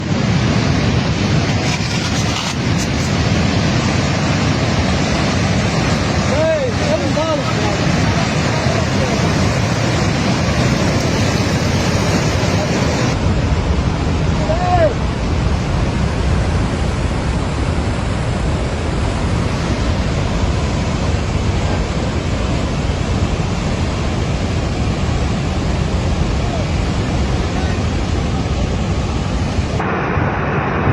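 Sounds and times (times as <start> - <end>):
floodwater rushing: 0.0 - 16.1, 16.8 - 30.9.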